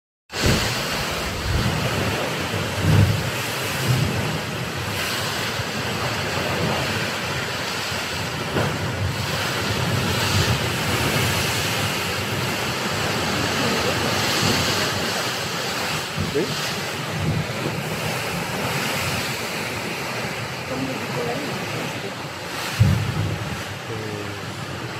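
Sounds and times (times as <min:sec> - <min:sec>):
sea surf: 0:00.3 - 0:24.9
wind buffeting microphone: 0:00.4 - 0:24.9.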